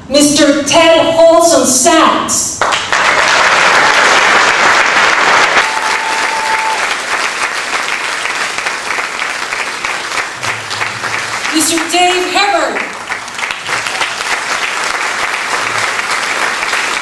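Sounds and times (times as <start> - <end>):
audience applauding: 2.6 - 17.0.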